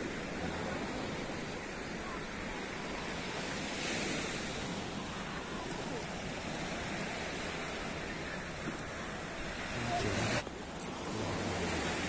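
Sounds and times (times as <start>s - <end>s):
surf washing onto sand: 0.0s - 12.0s.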